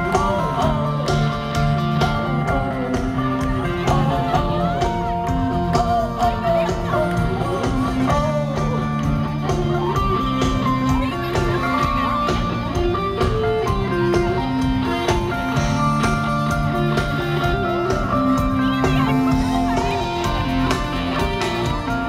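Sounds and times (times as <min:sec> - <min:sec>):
moving bass line: 0:00.0 - 0:22.0
rock guitar instrumental: 0:00.0 - 0:22.0.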